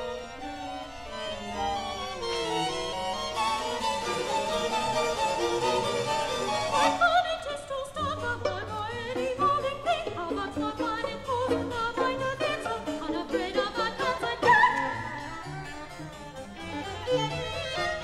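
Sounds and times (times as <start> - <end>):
soprano singing with vibrato: 0.0 - 16.0
string quartet: 0.0 - 18.0.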